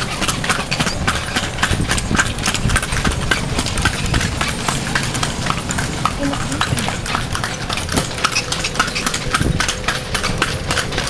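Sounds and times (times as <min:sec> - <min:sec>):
carriage rumble: 0:00.0 - 0:11.0
horse hooves on pavement: 0:00.0 - 0:11.0.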